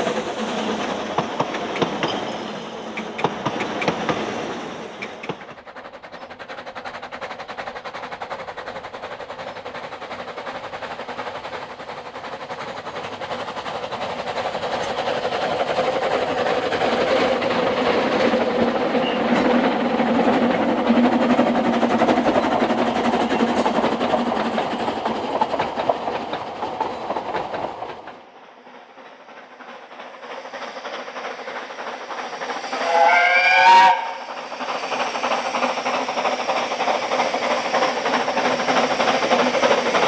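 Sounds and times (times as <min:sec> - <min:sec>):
steam locomotive exhaust beats: 0:00.0 - 0:40.0.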